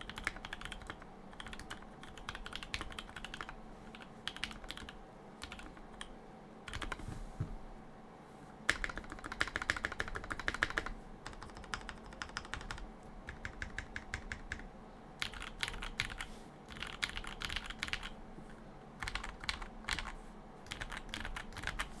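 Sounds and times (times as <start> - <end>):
mechanical keyboard typing: 0.0 - 6.1, 6.7 - 7.0, 8.7 - 18.2, 19.0 - 21.9.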